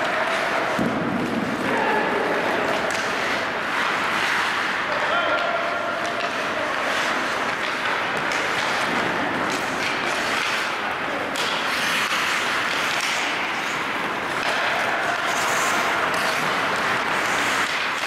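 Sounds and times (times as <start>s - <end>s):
arena noise: 0.0s - 18.0s
clicks of sticks and puck: 0.0s - 18.0s.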